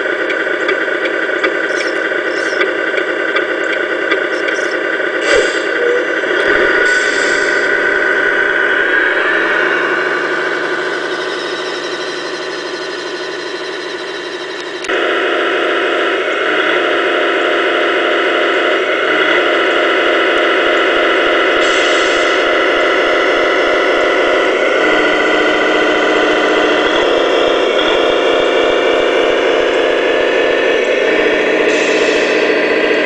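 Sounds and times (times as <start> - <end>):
simulated diesel truck engine: 0.0 - 33.0.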